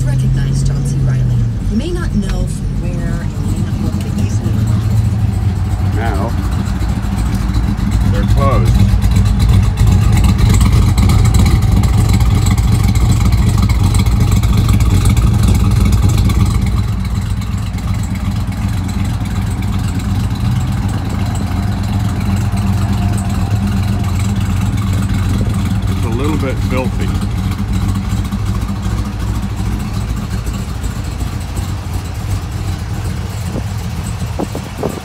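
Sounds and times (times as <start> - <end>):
engine exhaust idling: 0.0 - 35.0.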